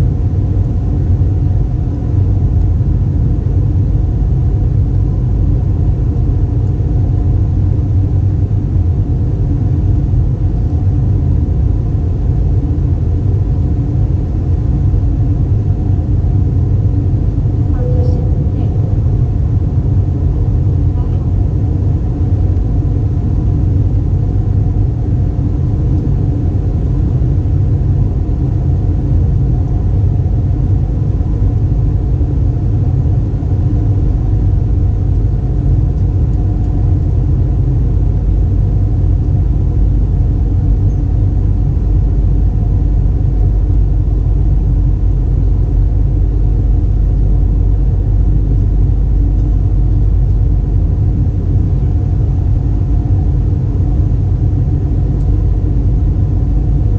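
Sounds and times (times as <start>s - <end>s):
engine and airflow rumble: 0.0s - 56.9s
faint steady hums: 0.0s - 56.9s.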